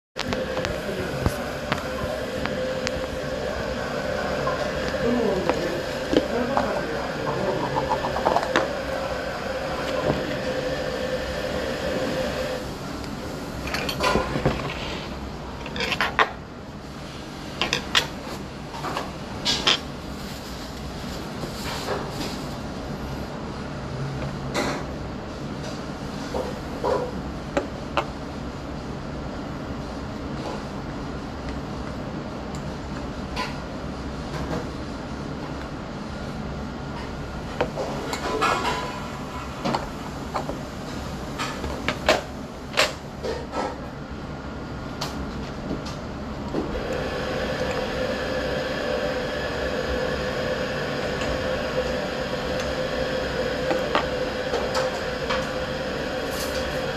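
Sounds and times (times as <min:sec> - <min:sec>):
steady hum: 0:00.2 - 0:56.9.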